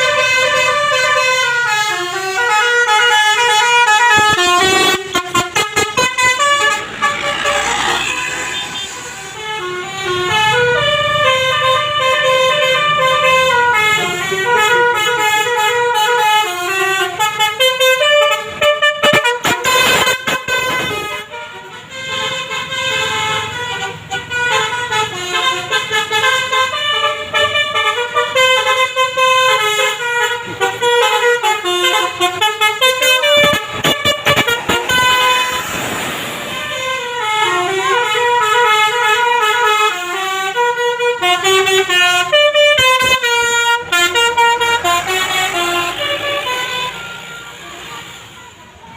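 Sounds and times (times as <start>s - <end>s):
bus horn playing a tune: 0.0s - 48.8s.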